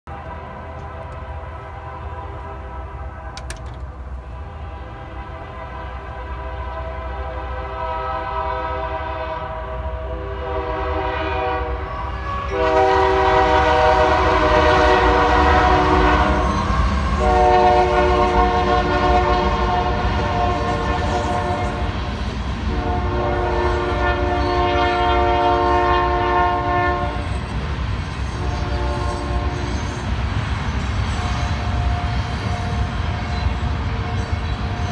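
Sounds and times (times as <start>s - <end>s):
train horn blasts: 0.1s - 27.3s, 28.3s - 30.0s
locomotive rumble: 0.1s - 34.9s.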